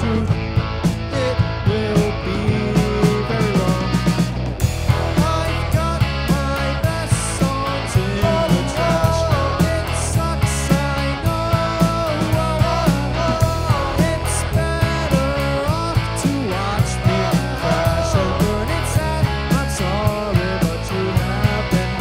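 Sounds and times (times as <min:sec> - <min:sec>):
drum kit beat: 0:00.0 - 0:22.0
electric bass: 0:00.0 - 0:22.0
electric guitars: 0:00.0 - 0:22.0.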